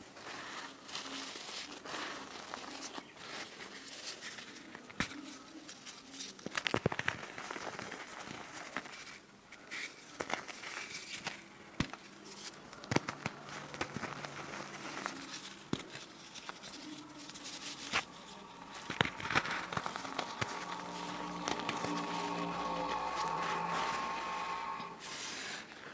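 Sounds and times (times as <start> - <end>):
chalk crumbling by hand: 0.0 - 25.6.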